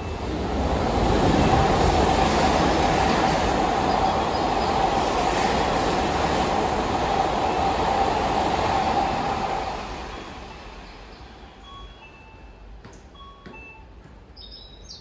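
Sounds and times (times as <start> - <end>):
train wheels rushing on rail: 0.0 - 14.2.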